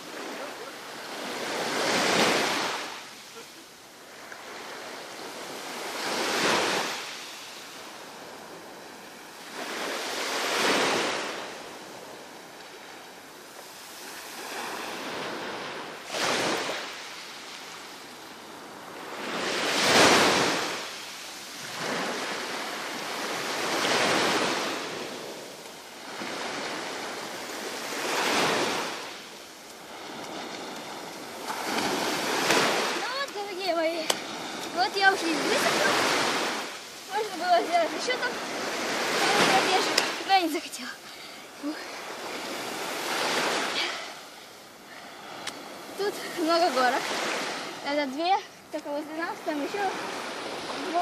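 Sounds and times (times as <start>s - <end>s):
waves breaking on shore: 0.0s - 51.0s.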